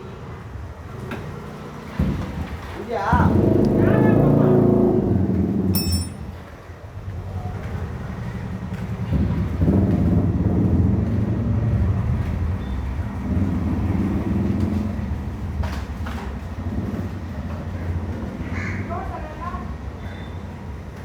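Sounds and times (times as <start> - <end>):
vehicle engine rumbling: 1.5 - 21.0.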